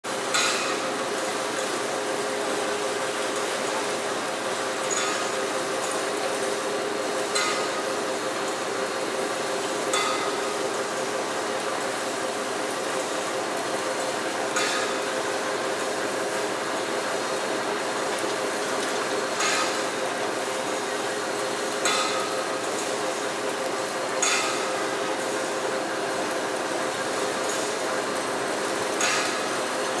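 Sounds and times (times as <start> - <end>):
factory machinery humming: 0.1 - 30.0.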